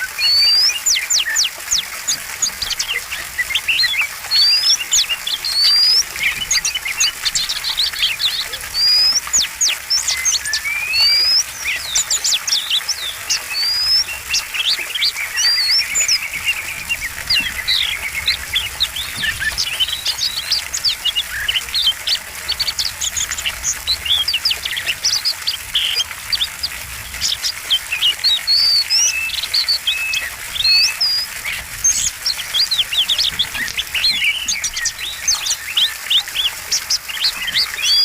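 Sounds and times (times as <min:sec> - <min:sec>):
songbird singing varied song: 0:00.0 - 0:38.0.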